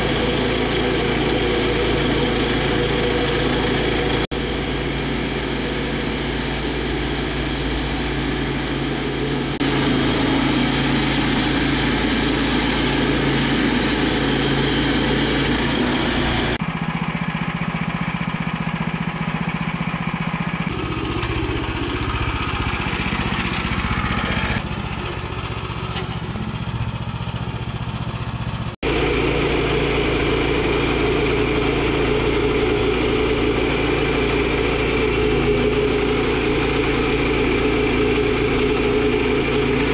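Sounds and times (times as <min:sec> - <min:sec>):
sawmill engine cutting lumber: 0:00.0 - 0:39.9.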